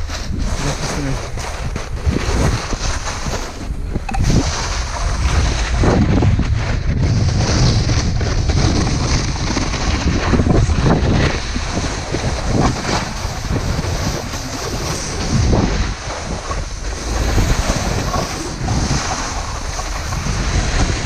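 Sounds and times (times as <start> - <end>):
snowboard carving on snow: 0.0 - 21.0
wind buffeting microphone: 0.0 - 21.0.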